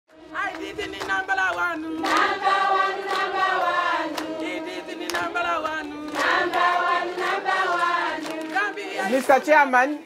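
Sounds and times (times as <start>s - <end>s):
group of voices singing: 0.1s - 9.5s.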